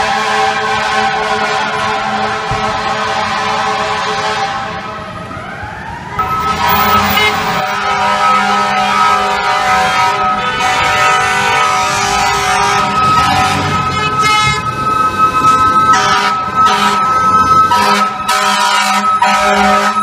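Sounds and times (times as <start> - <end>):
city traffic noise: 0.0 - 20.0
fire truck air horns blaring: 0.0 - 20.0.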